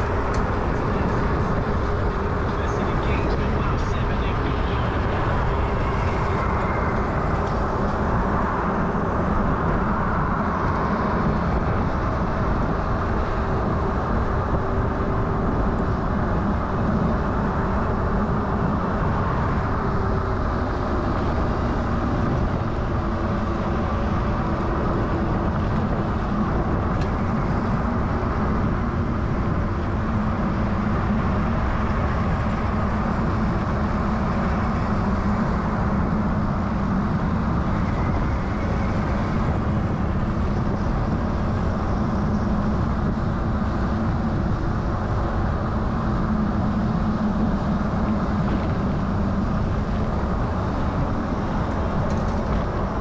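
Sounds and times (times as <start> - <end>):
road noise: 0.0 - 53.0
wind rush: 0.0 - 53.0.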